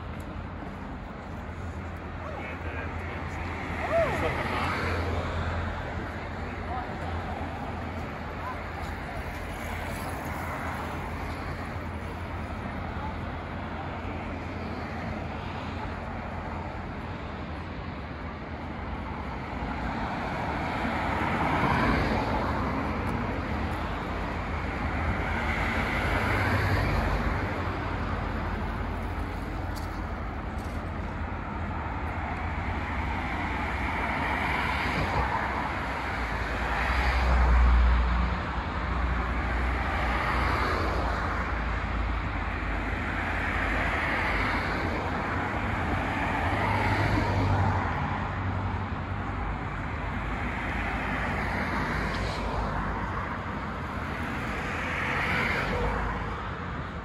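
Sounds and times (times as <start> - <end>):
vehicles passing: 0.0 - 57.0.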